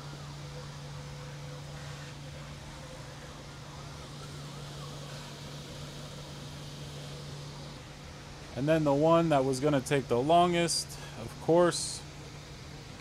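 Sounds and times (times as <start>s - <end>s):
three d printers humming: 0.0s - 13.0s.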